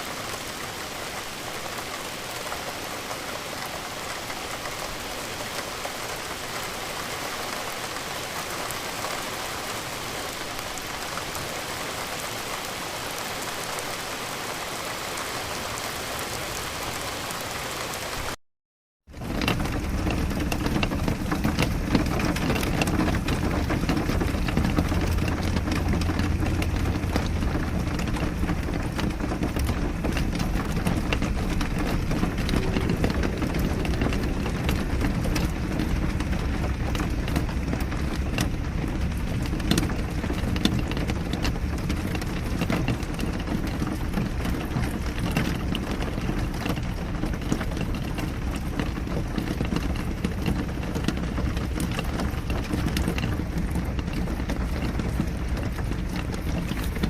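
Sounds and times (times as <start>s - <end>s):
rain falling: 0.0s - 18.4s, 19.1s - 57.0s
raindrops ticking: 0.0s - 18.4s, 19.1s - 57.0s.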